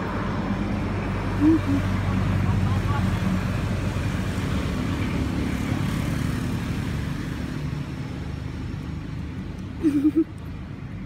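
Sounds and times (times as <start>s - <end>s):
engine humming: 0.7s - 11.0s.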